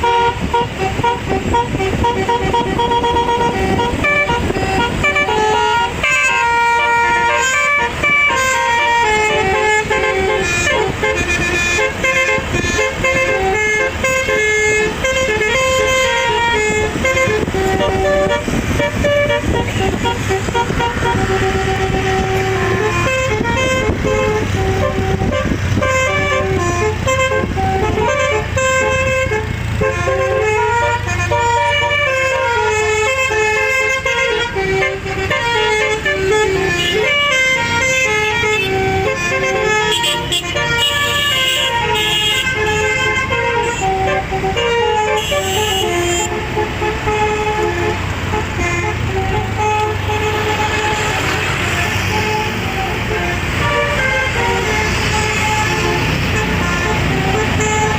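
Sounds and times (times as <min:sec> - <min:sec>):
bus engine hum: 0:00.0 - 0:57.9
multi-note bus horn melody: 0:00.0 - 0:57.9.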